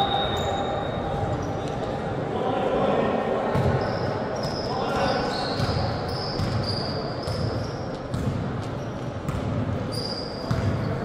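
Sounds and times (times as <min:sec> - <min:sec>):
sneakers squeaking: 0:00.0 - 0:02.0, 0:03.5 - 0:11.0.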